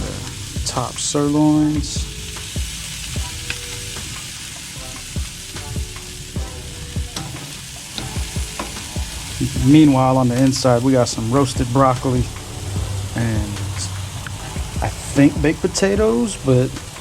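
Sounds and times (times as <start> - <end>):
steaks sizzling on a grill: 0.0 - 17.0.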